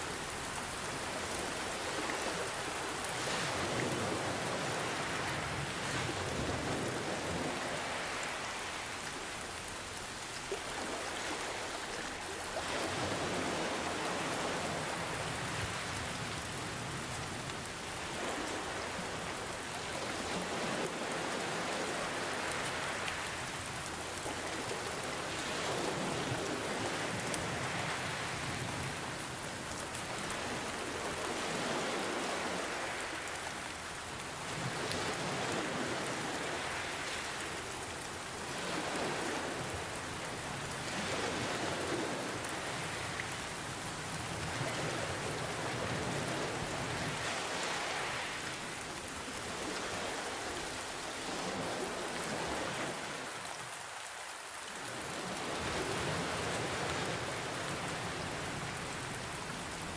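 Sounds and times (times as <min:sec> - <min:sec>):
ocean waves: 0:00.0 - 0:59.9
steady rain falling: 0:00.0 - 0:59.9.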